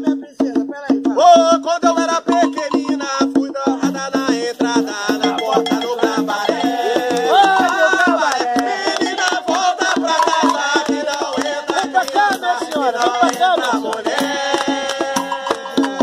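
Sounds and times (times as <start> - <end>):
hand drum rhythm: 0.0 - 16.0
voices singing a chant: 0.0 - 16.0.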